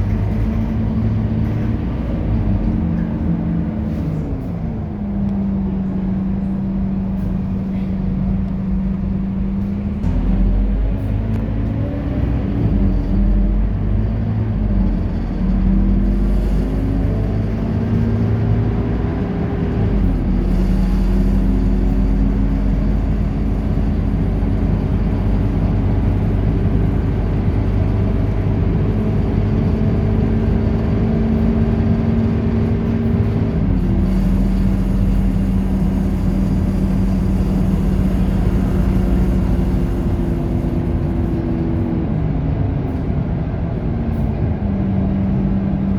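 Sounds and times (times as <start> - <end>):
bus engine pulling under load: 0.0 - 45.9.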